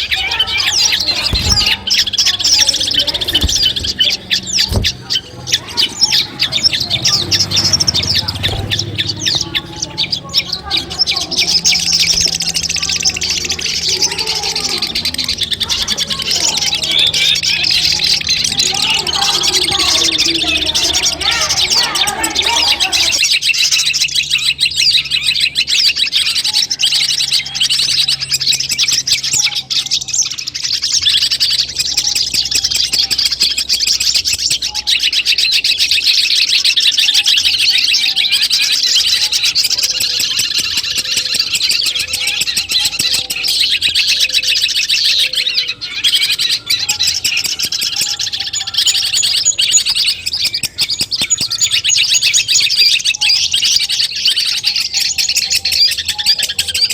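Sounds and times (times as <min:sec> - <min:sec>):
bird chattering song: 0:00.0 - 0:56.9.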